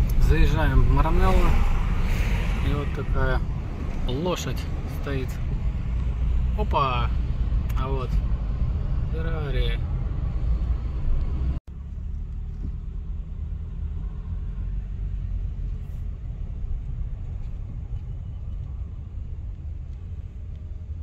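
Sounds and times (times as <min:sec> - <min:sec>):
car interior engine and road noise: 0:00.0 - 0:21.0.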